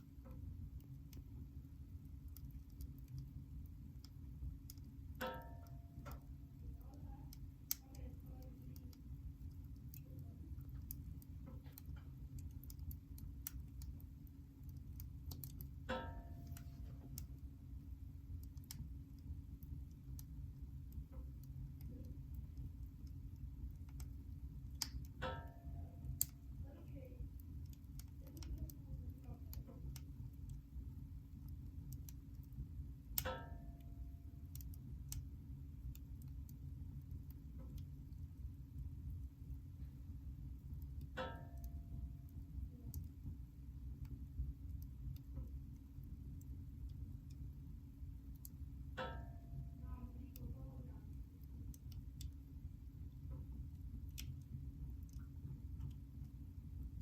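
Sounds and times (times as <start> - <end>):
firewood crackling and popping: 0.0 - 57.0.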